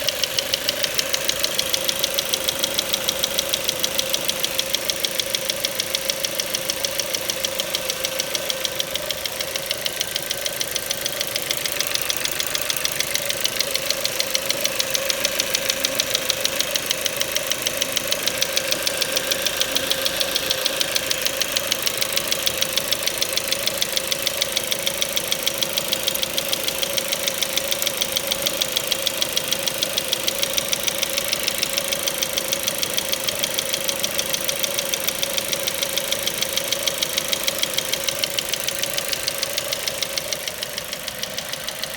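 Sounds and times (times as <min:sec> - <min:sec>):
car engine knocking: 0:00.0 - 0:41.9.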